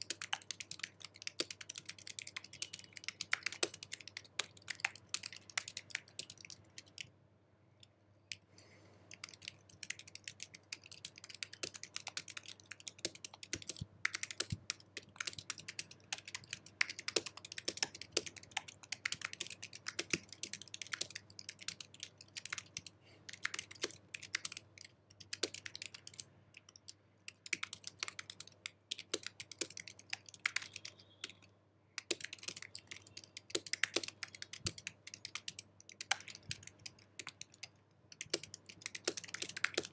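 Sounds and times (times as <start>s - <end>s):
fast typing on keyboard: 0.0s - 7.1s, 9.0s - 39.9s.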